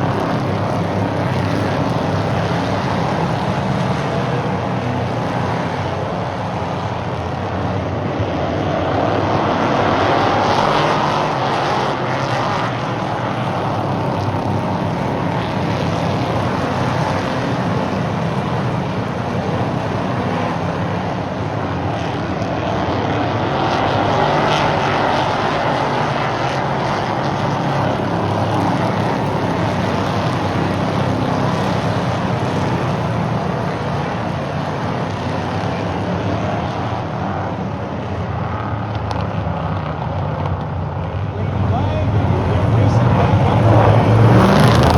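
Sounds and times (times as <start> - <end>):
race car engines droning: 0.0 - 44.9.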